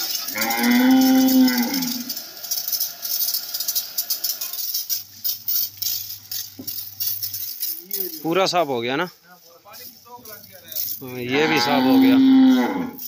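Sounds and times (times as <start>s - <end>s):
hose water jet spraying: 0.0s - 13.0s.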